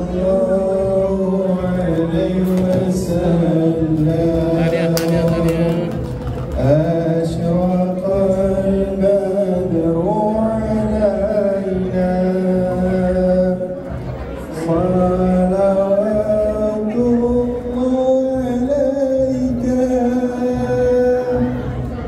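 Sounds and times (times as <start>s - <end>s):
man chanting through loudspeaker: 0.0s - 22.0s.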